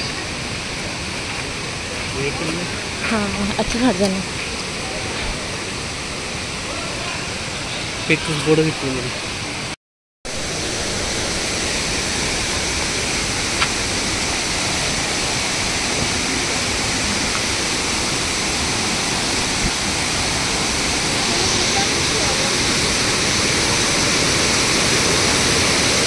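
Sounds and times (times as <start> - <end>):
water cascading over rocks: 0.0 - 26.0.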